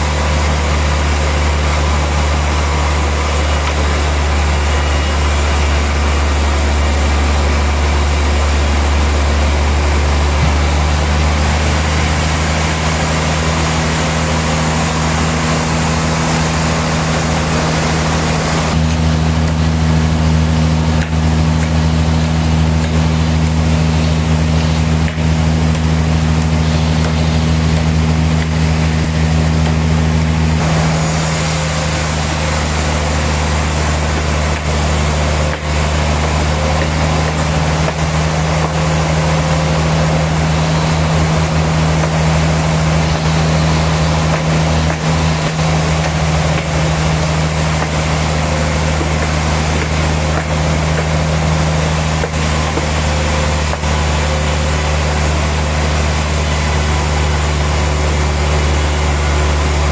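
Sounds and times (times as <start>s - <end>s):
heavy machinery droning: 0.0s - 59.9s.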